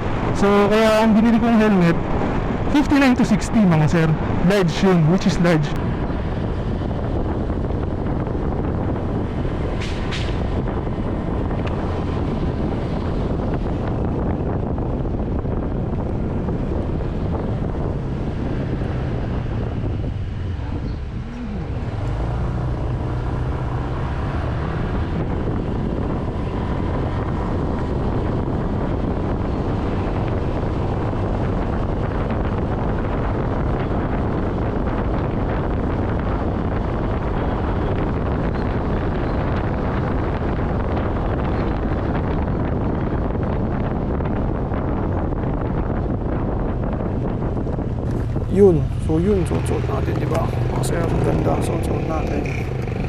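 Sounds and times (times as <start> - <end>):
motorcycle drone: 0.0 - 53.0
wind rushing over microphone: 0.0 - 53.0.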